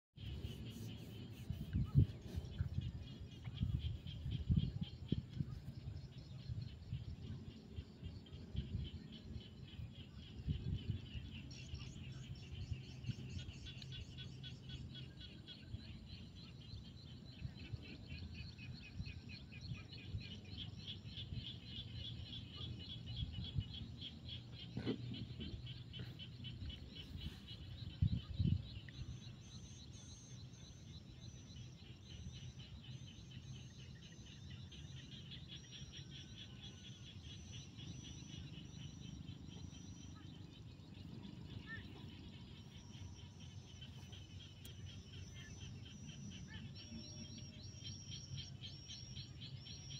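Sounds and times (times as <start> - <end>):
frogs trilling: 0.2 - 49.9.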